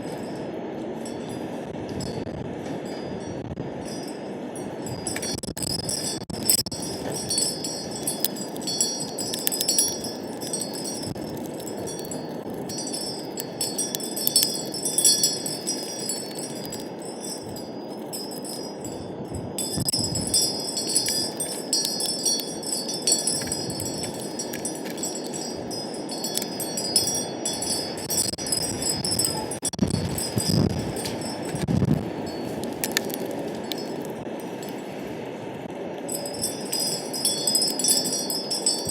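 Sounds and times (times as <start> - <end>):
metal wind chimes ringing: 0.0 - 35.0, 36.1 - 38.9
wind noise: 0.0 - 38.9.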